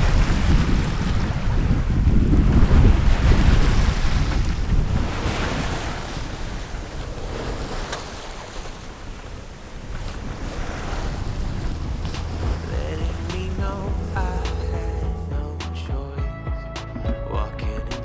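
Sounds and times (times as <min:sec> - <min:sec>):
wind buffeting microphone: 0:00.0 - 0:15.4
water rushing along boat hull: 0:00.0 - 0:15.5.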